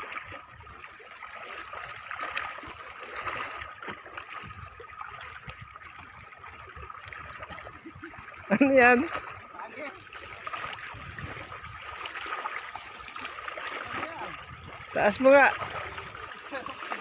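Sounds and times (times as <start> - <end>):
small waves lapping against rocks: 0.0 - 17.0.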